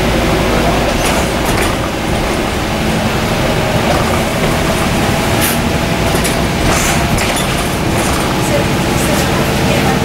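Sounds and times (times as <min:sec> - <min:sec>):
diesel bus engine running: 0:00.0 - 0:10.0
tyres on a wet road: 0:00.0 - 0:10.0.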